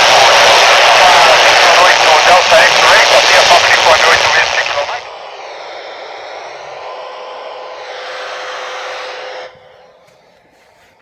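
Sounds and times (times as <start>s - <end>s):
radio static hiss: 0.0s - 10.1s.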